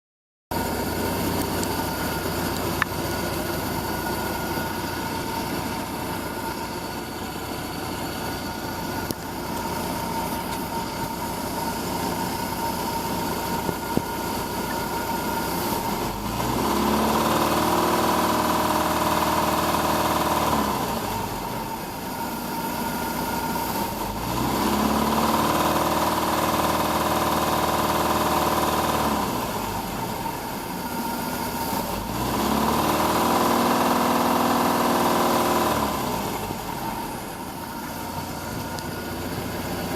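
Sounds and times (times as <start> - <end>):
boat engine idling and revving: 0.5 - 39.9
engine knock: 0.5 - 39.9.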